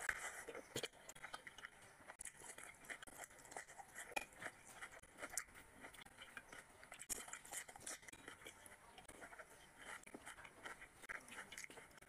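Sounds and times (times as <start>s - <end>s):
person chewing with mouth clicks: 0.0s - 12.0s.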